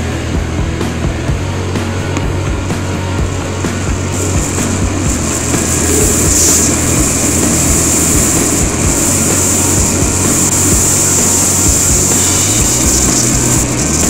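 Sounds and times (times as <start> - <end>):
motorcycle engine cruising: 0.0 - 14.0
wind rush: 0.4 - 14.0.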